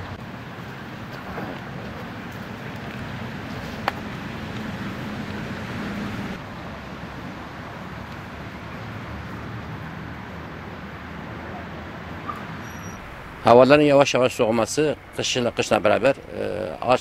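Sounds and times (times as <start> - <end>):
road traffic: 0.0 - 17.0
vehicle hum: 0.0 - 17.0.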